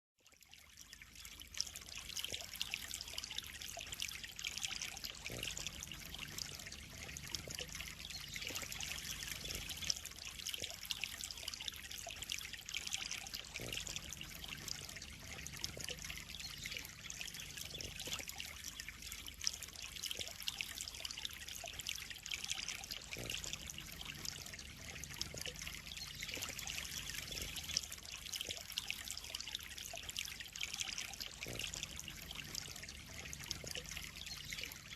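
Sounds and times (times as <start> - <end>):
water trickling into pond: 0.2 - 34.9.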